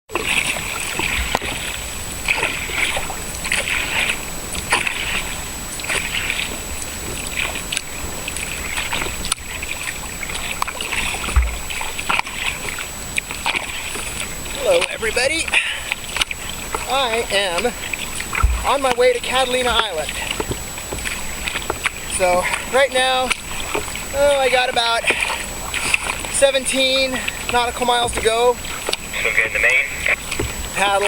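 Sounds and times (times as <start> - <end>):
kayak paddle splashing water: 0.1 - 31.0.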